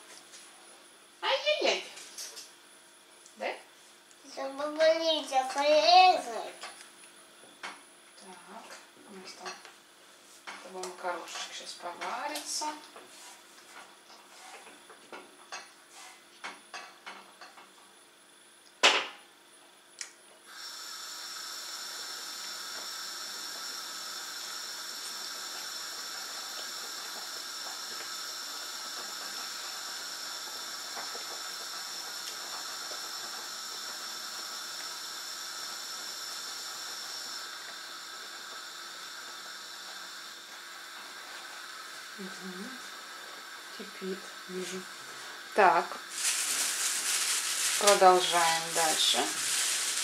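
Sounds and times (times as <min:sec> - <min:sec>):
stove hissing: 0:00.0 - 0:19.3, 0:20.0 - 0:50.0.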